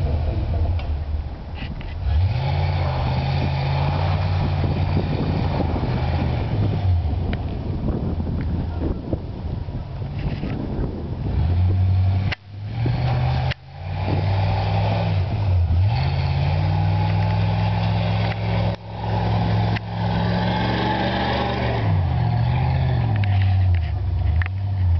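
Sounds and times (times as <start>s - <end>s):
truck engine revving high: 2.0s - 8.4s, 10.8s - 24.9s.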